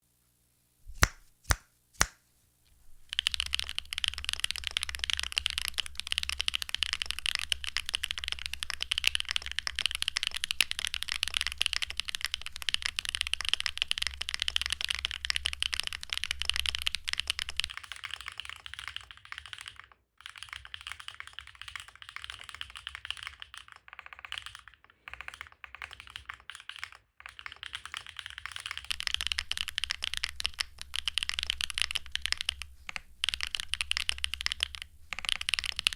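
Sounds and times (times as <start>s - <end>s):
mechanical keyboard typing: 3.0s - 35.9s.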